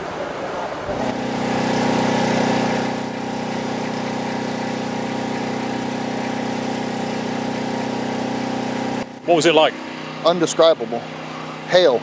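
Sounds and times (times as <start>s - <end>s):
engine idling: 0.9s - 12.0s.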